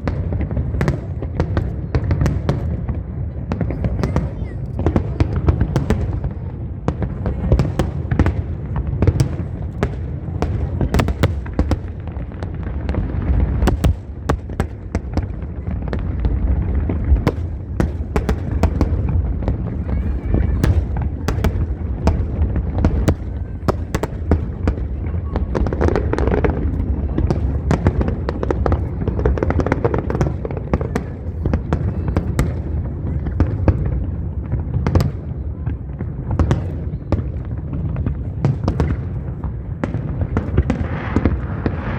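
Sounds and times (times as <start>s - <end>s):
crowd voices: 0.0s - 41.9s
fireworks booming: 0.0s - 41.9s
fireworks cracks and crackles: 0.0s - 41.9s.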